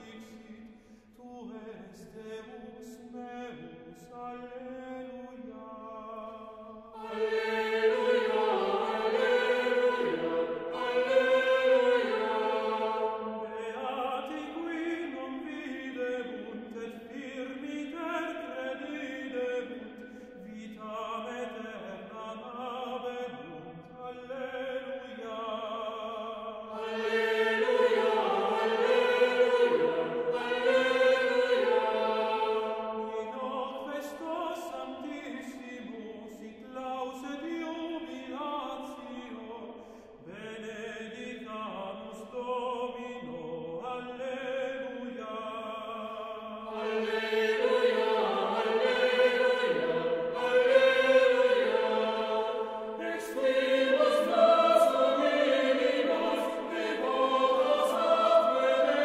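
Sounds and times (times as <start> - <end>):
choir chanting in unison: 1.2 - 59.0.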